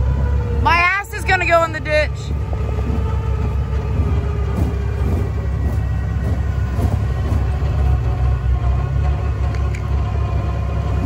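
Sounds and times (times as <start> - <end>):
electric winch motor whine: 0.0 - 11.0
vehicle engines rumbling: 0.0 - 11.0.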